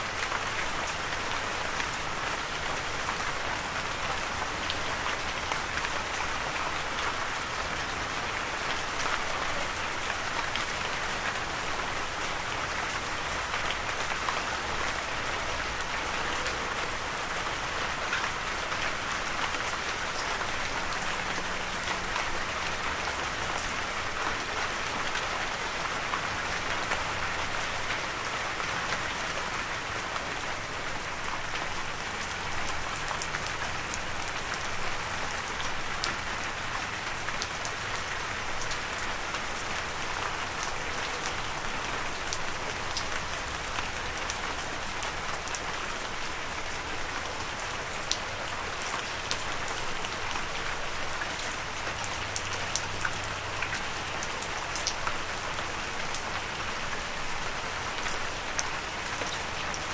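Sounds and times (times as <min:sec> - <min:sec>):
rain pattering on surface: 0:00.0 - 0:59.9.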